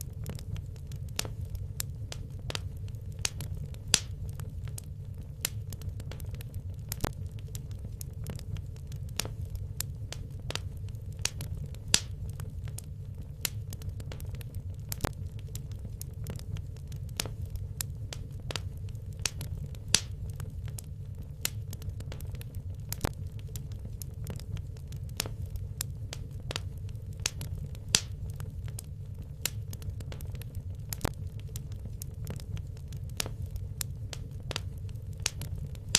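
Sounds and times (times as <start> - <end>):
crackling pops of burning logs: 0.0 - 35.9
low rumble of fire: 0.0 - 35.9.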